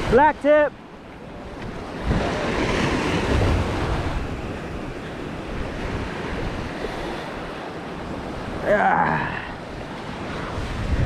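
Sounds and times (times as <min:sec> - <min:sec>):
surf washing up beach: 0:00.0 - 0:11.0
wind buffeting microphone: 0:01.2 - 0:08.6, 0:09.6 - 0:11.0.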